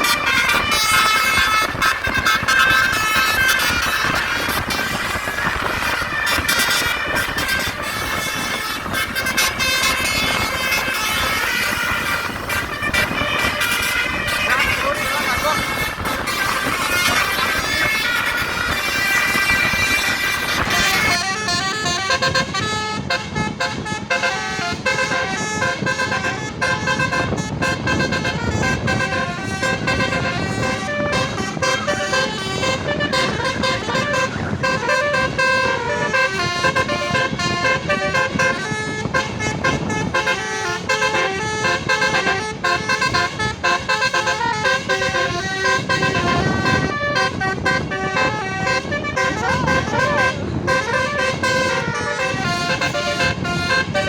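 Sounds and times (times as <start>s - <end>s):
bus air horn melody: 0.0s - 54.0s.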